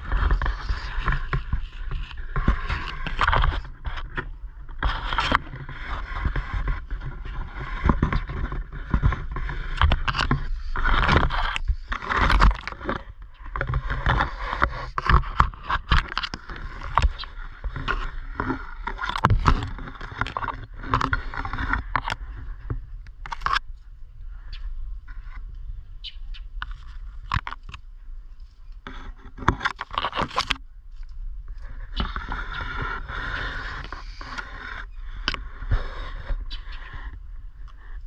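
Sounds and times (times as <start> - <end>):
leaves and twigs rustling: 0.0 - 38.0
low wind rumble: 0.0 - 38.0.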